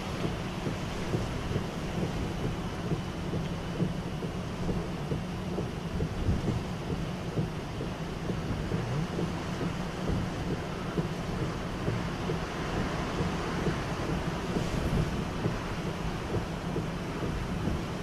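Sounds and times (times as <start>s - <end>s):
heavy rain hiss: 0.0s - 18.0s
wind buffeting microphone: 0.0s - 18.0s.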